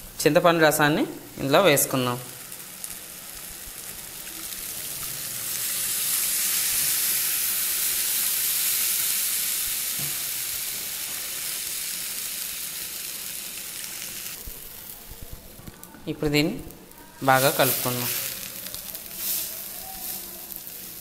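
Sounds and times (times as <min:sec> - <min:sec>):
liquid sizzling in hot pot: 0:01.1 - 0:21.0.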